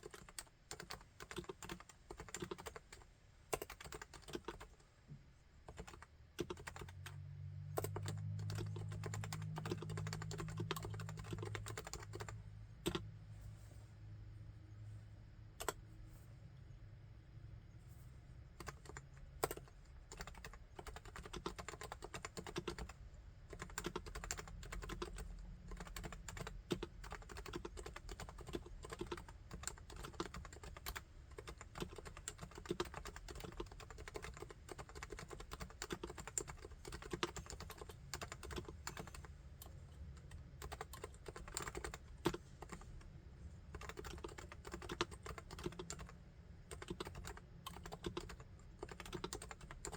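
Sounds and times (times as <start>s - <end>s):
typing on a keyboard: 0.0s - 4.8s, 5.7s - 13.0s, 18.6s - 42.9s, 43.7s - 49.9s.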